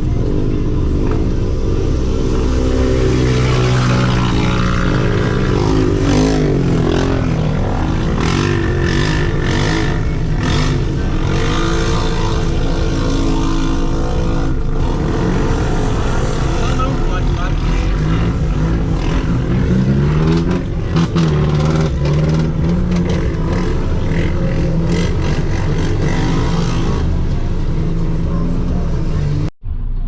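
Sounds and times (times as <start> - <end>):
off-road vehicle engine revving: 0.0 - 29.5.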